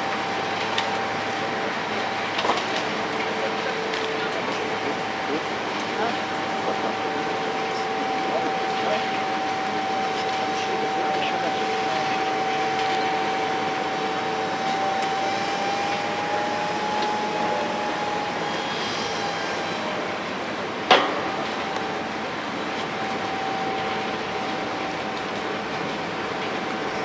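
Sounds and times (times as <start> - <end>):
excavator engine whining: 0.0 - 27.0.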